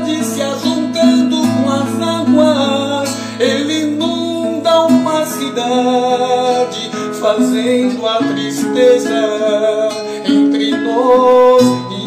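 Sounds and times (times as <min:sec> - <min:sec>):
guitar strumming: 0:00.0 - 0:12.0
person singing: 0:00.0 - 0:12.0.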